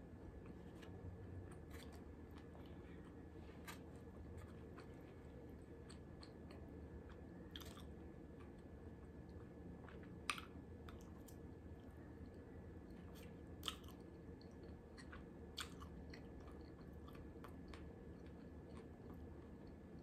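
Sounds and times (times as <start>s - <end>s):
low room hum: 0.0s - 20.0s
chewing food: 0.2s - 20.0s.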